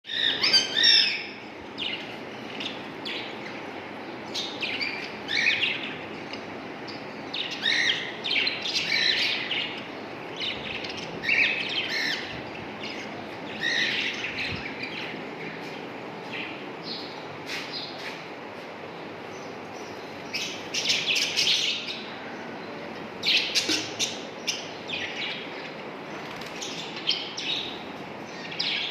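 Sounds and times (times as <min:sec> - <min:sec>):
steady low hiss: 0:00.1 - 0:28.9.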